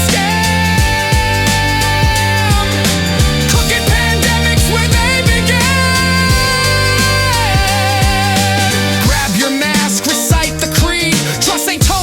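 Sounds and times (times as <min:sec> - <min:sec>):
sustained bass: 0:00.0 - 0:12.0.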